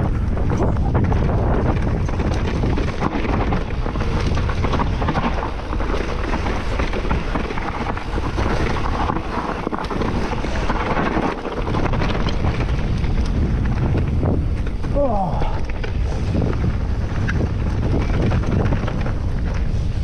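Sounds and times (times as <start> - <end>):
bike rattling over rough ground: 0.0 - 20.0
wind buffeting microphone: 0.0 - 20.0.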